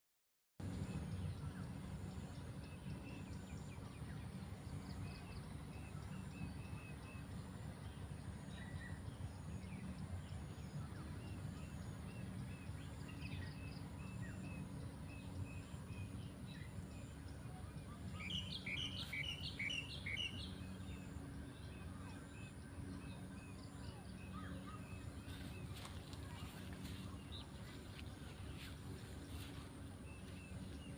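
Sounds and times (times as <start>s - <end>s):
small birds chirping: 0.6s - 30.9s
steady low rumble: 0.6s - 30.9s.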